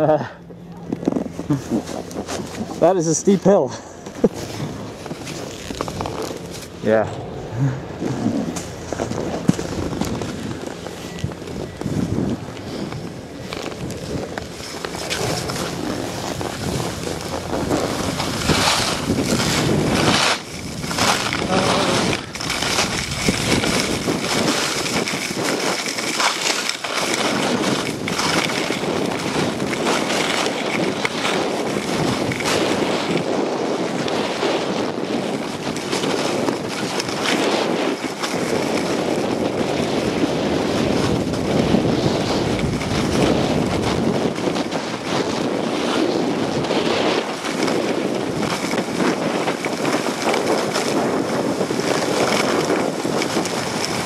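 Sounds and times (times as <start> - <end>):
skis scraping over snow: 0.0 - 54.0
wind on microphone: 0.0 - 54.0.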